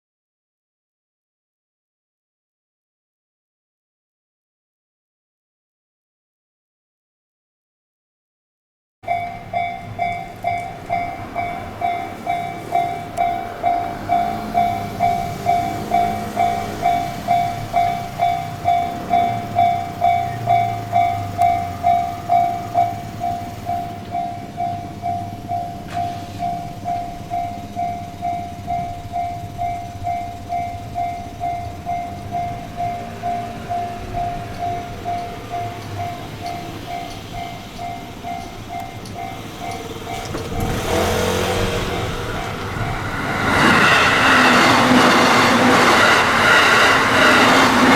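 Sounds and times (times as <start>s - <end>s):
electric train rumbling: 9.0s - 47.9s
level-crossing alarm ringing: 9.0s - 47.9s.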